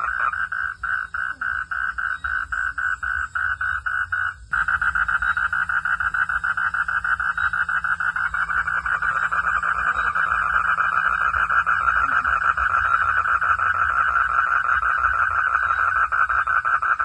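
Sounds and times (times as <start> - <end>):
frog croaking: 0.0 - 17.0.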